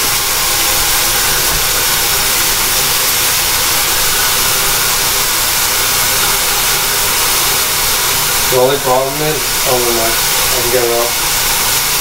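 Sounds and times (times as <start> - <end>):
tap water running: 0.0 - 12.0.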